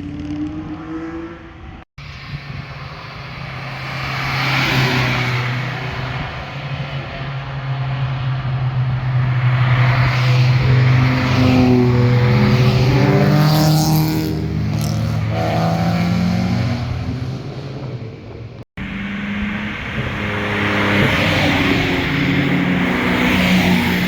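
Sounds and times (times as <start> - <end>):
car engine passing by: 2.4 - 18.2, 18.8 - 24.0.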